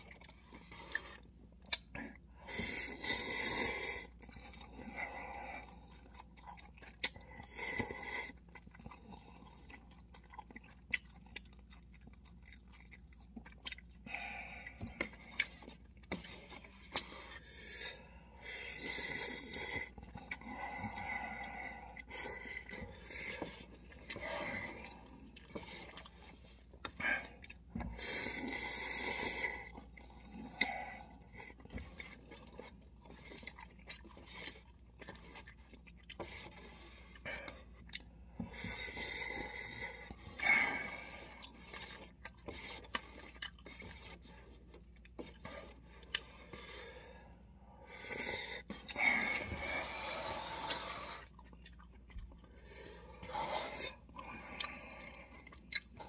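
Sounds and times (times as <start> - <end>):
chewing: 0.0 - 56.0
slurping noodles: 2.2 - 56.0.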